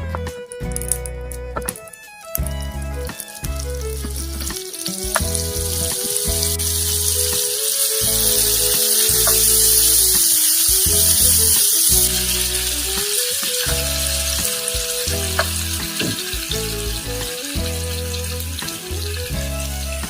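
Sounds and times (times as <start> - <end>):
background music: 0.0 - 20.0
batter sizzling in a hot pan: 3.1 - 20.0.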